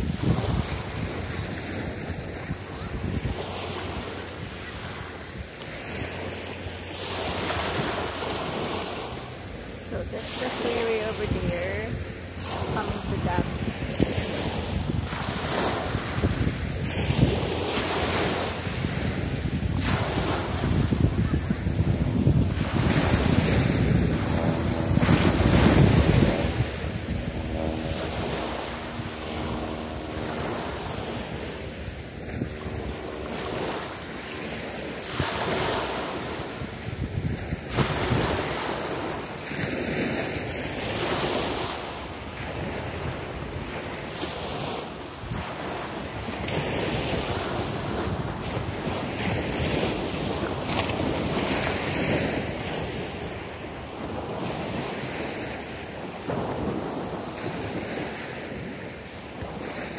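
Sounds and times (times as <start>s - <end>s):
small waves washing on shore: 0.0s - 59.9s
wind buffeting microphone: 0.0s - 59.9s.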